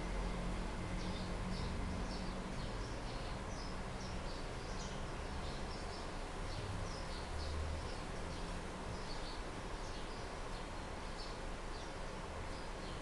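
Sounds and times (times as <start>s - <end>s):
low steady hum: 0.0s - 13.0s
small birds chirping: 0.0s - 13.0s.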